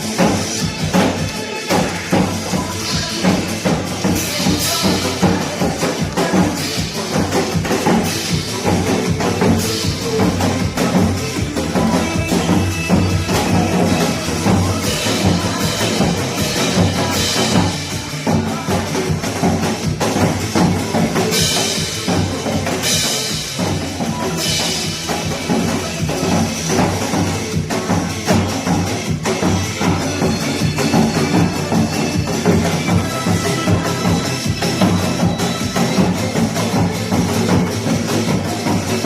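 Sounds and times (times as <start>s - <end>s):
drums beaten with sharp strikes: 0.0s - 39.0s
recorded song backing track: 0.0s - 39.0s.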